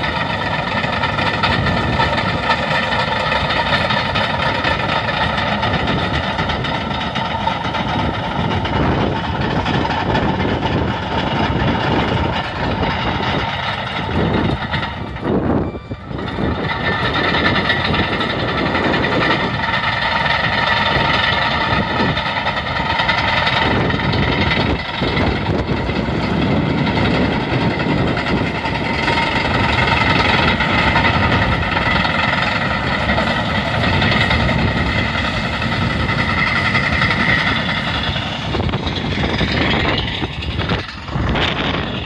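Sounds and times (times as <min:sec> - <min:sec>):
bulldozer engine running: 0:00.0 - 0:42.0
high steady whine: 0:00.0 - 0:42.0.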